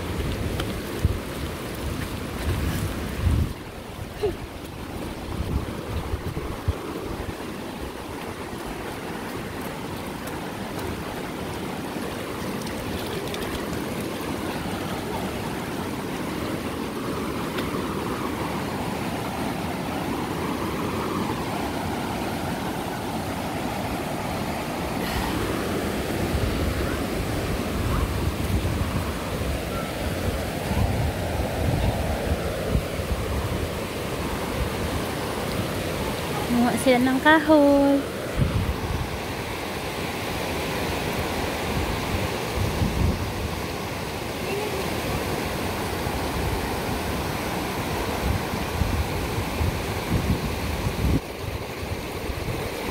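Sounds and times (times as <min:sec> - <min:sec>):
floodwater rushing: 0:00.0 - 0:52.9
wind rumbling on microphone: 0:00.0 - 0:52.9.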